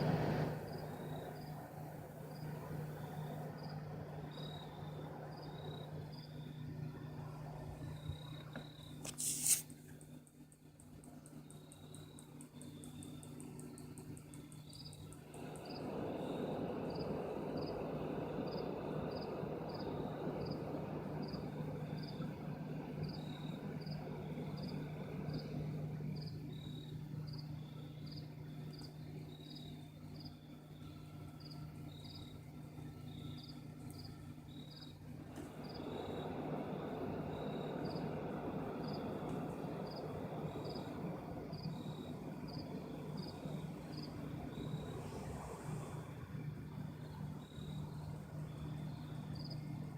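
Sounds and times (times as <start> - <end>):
low hum and rumble: 0.0 - 9.2, 9.8 - 49.9.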